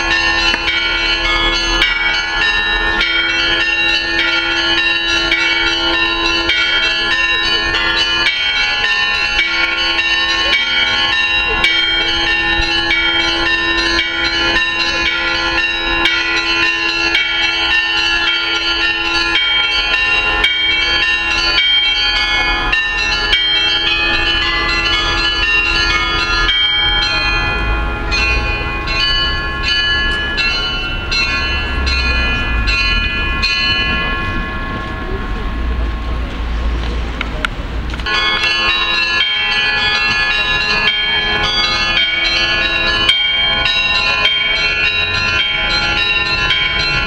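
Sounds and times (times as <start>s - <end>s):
small high-pitched bells ringing: 0.0s - 36.7s, 38.1s - 47.0s
deep bell tolling: 0.0s - 37.2s, 38.0s - 47.0s.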